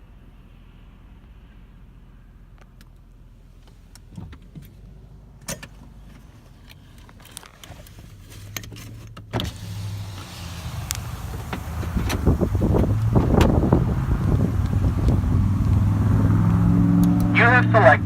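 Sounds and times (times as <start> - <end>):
car idling: 0.1 - 18.0.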